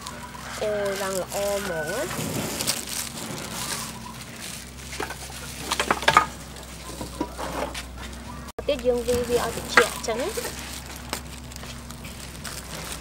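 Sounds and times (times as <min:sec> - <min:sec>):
low hum: 0:00.0 - 0:13.0
rustling of rice wrapping: 0:00.0 - 0:13.0.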